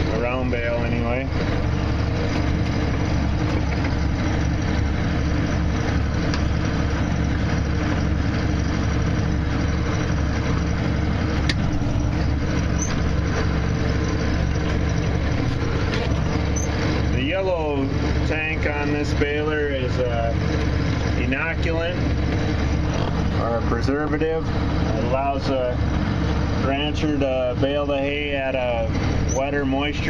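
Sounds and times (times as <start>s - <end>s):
tractor and baler running: 0.0s - 30.0s.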